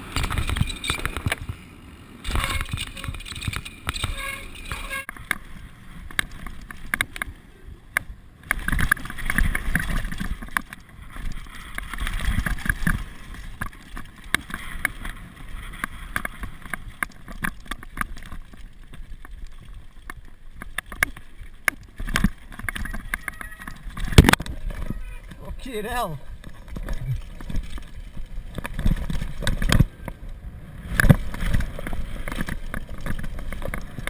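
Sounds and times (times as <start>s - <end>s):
bike rattling and knocking: 0.0s - 1.6s, 2.2s - 7.4s, 8.0s - 30.2s, 30.9s - 34.0s.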